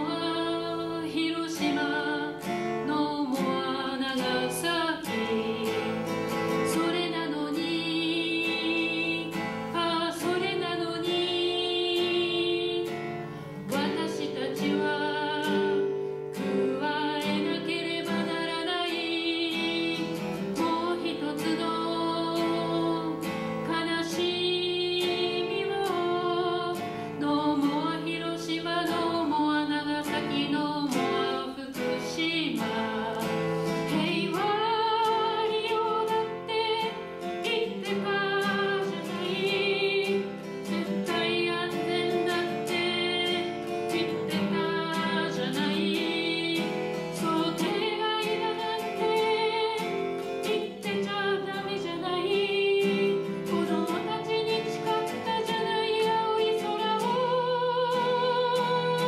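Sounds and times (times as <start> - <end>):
acoustic guitar: 0.0 - 59.0
woman singing: 0.0 - 59.0.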